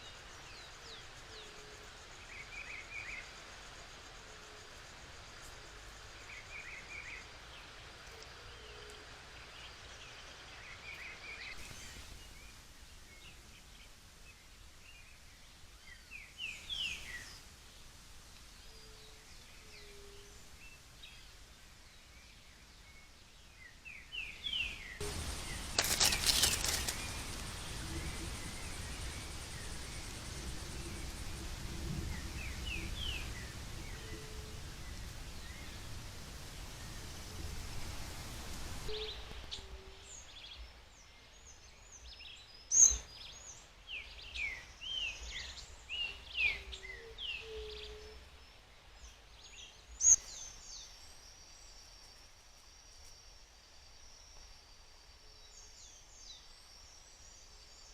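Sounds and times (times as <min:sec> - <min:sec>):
background hiss: 0:00.0 - 0:57.9.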